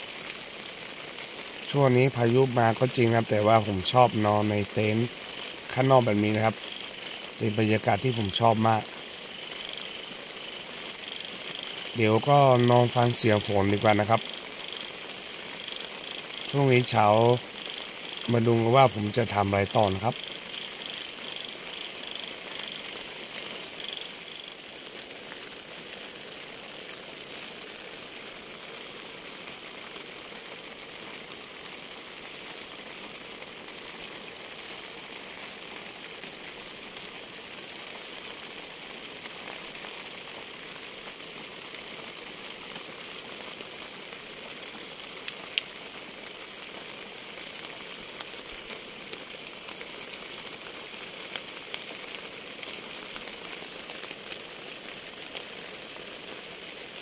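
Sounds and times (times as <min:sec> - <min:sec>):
insect chirping: 0:00.0 - 0:57.0
steady rain falling: 0:00.0 - 0:57.0.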